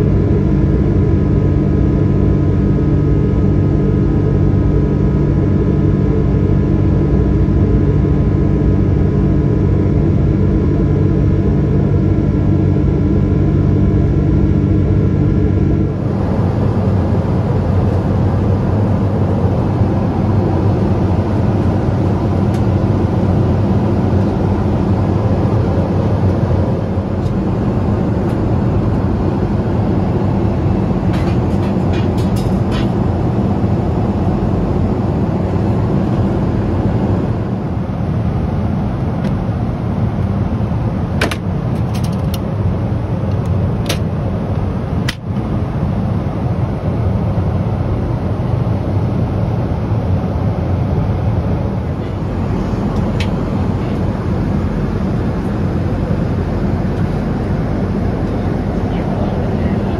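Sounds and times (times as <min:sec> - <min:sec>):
jet engine roar with tones: 0:00.0 - 0:59.9
rushing cabin roar: 0:00.0 - 0:59.9.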